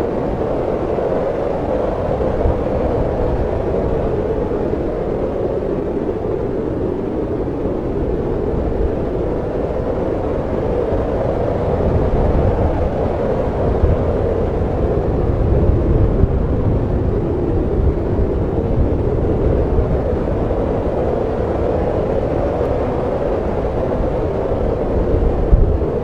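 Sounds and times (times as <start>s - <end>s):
snowstorm wind blowing: 0.0s - 26.0s.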